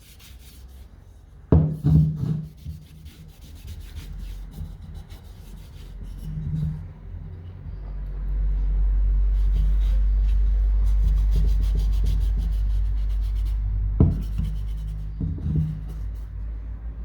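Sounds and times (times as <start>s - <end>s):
scraping and rubbing: 0.0s - 7.2s, 8.5s - 16.4s
steady low hum: 0.0s - 17.0s.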